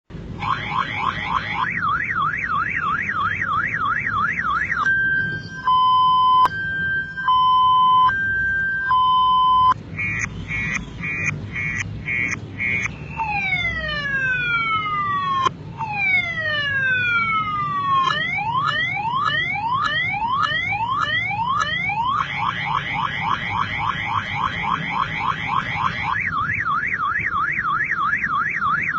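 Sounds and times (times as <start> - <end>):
car alarm siren: 0.4 - 28.9.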